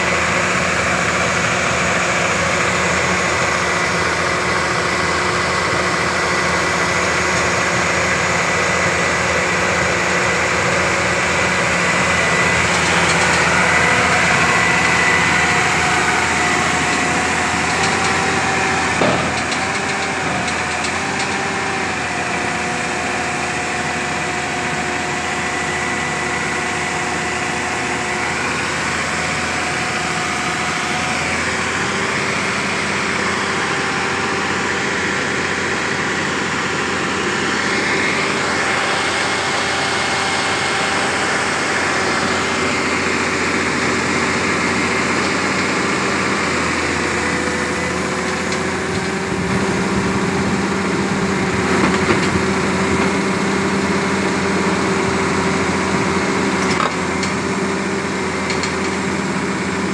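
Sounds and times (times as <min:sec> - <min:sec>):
diesel engine running: 0:00.0 - 0:59.9
steady high whine: 0:00.0 - 0:59.9.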